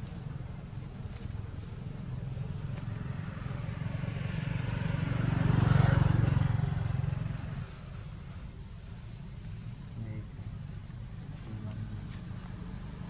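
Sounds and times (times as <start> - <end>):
vehicle engine rumble passing: 0.0 - 13.0.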